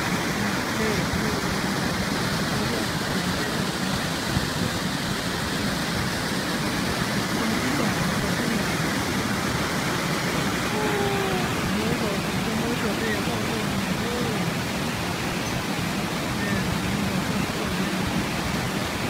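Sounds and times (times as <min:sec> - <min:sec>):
floodwater rushing over rocks: 0:00.0 - 0:19.0.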